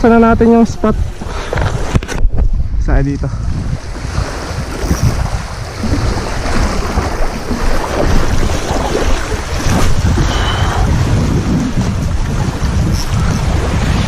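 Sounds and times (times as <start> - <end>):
waves breaking on shore: 0.0 - 14.0
wind buffeting microphone: 0.0 - 14.0.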